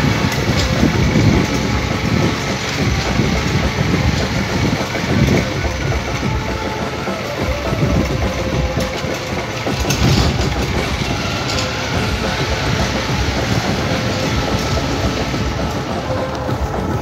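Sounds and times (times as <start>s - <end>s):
small motorcycle engine running: 0.0s - 17.0s
wind noise on microphone: 0.0s - 17.0s.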